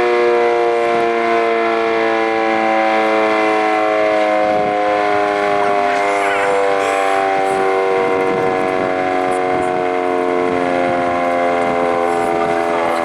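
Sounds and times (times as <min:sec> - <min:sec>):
outdoor warning siren wailing: 0:00.0 - 0:13.0.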